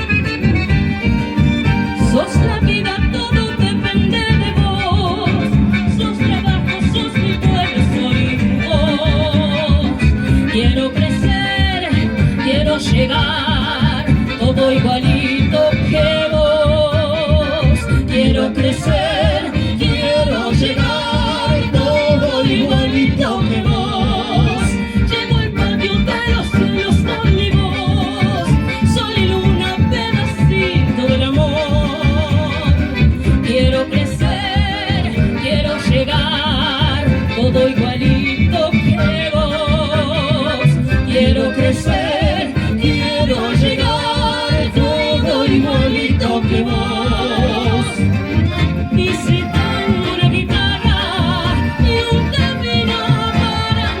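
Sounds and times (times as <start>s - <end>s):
live band playing: 0.0s - 54.0s
pulsing bass beat: 0.0s - 54.0s.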